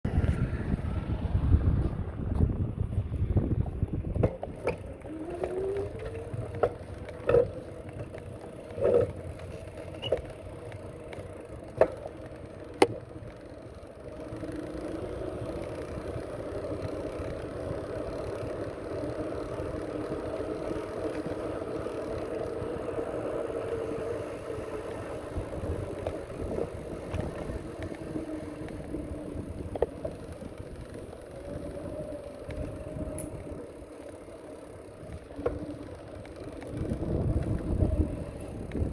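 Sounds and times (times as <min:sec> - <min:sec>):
bicycle rolling along: 0:00.1 - 0:38.9
bicycle knocks and rattles: 0:01.7 - 0:14.4, 0:15.1 - 0:38.9.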